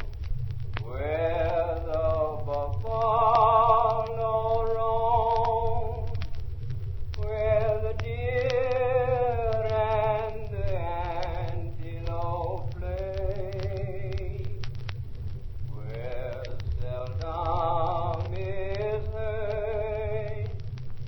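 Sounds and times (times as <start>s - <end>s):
crackling clicks: 0.0s - 21.0s
low rumble: 0.0s - 21.0s
wordless voices holding notes: 0.8s - 6.4s, 7.1s - 14.7s, 15.7s - 20.6s.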